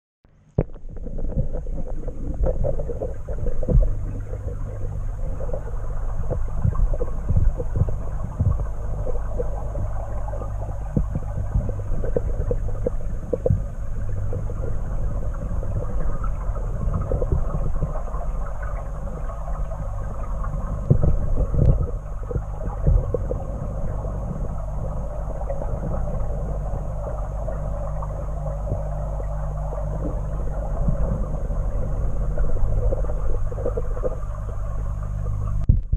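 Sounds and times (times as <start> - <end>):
underwater low hum: 0.2 - 35.9.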